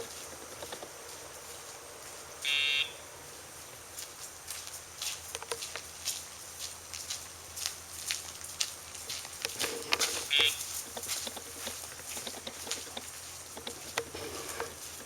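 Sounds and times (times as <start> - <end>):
footsteps on ground: 0.0 - 14.0.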